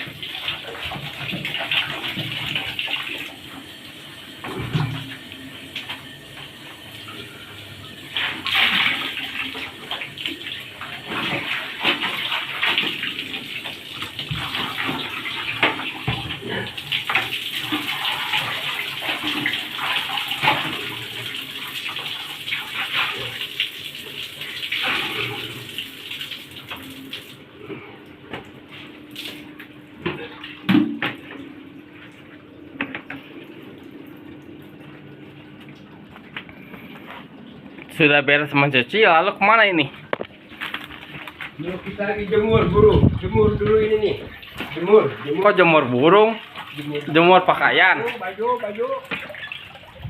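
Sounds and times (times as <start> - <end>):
water splashing and sloshing: 0.0 - 50.0.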